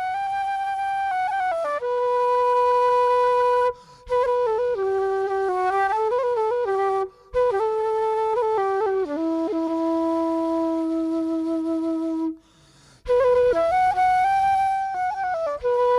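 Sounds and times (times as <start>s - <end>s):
slow flute-like wind melody: 0.0s - 15.9s.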